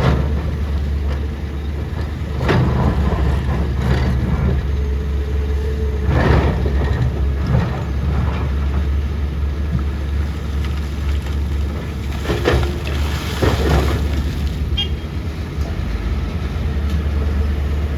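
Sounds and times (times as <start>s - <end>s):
excavator clatter: 0.0s - 17.9s
excavator diesel engine rumbling: 0.0s - 17.9s.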